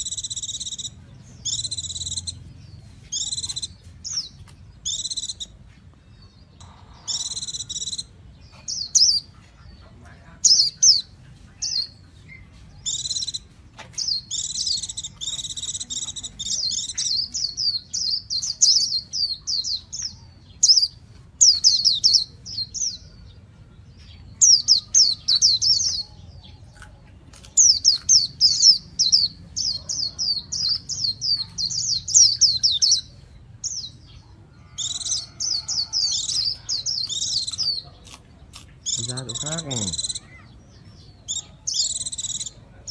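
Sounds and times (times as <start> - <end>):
bird twittering song: 0.0 - 42.9.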